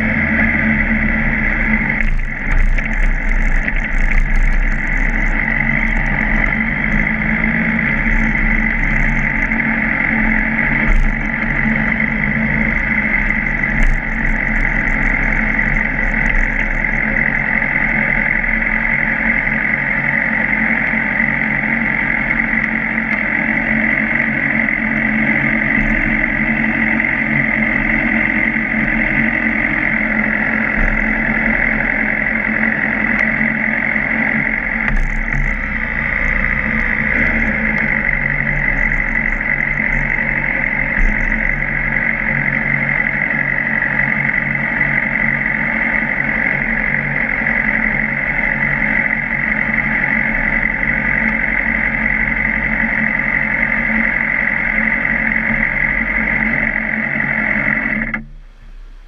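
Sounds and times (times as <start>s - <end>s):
motorcycle engine running steadily: 0.0s - 59.0s.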